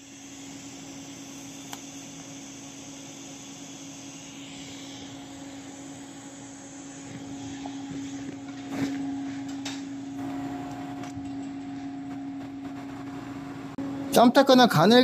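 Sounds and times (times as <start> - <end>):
welding hum and hiss: 0.0 - 13.8.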